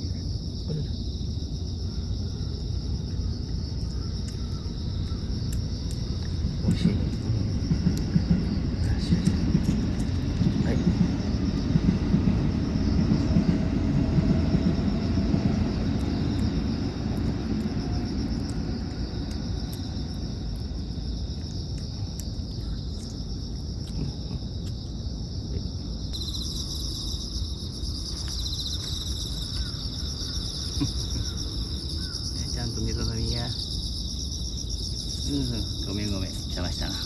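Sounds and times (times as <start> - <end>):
fast-pulsing insect trill: 0.0 - 37.0
insects chirping: 0.0 - 37.0.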